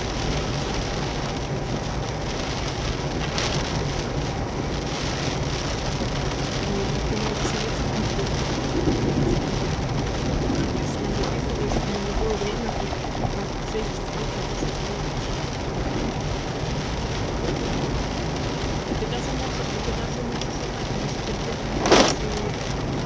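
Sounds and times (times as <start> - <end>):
heavy rain on car windshield: 0.0 - 23.0.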